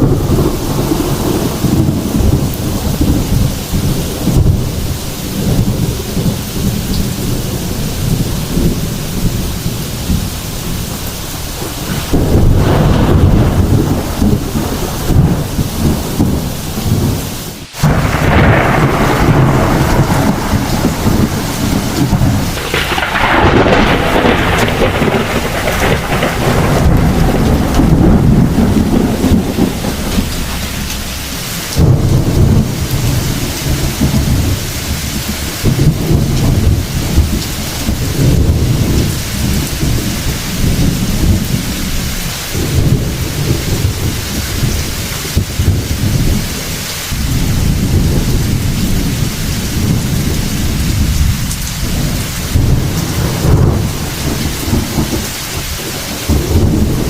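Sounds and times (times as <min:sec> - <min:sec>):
heavy rain: 0:00.0 - 0:57.0
thunder rumbling: 0:00.0 - 0:57.0.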